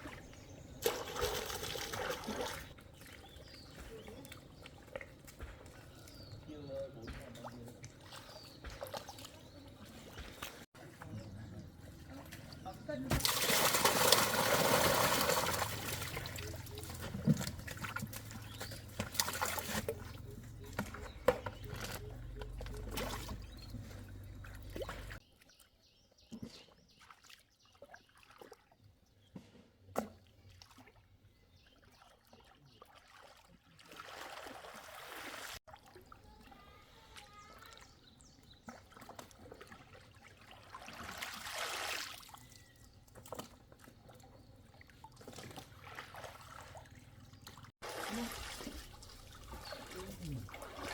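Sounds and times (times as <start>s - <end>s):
water splashing and trickling: 0.0s - 50.9s.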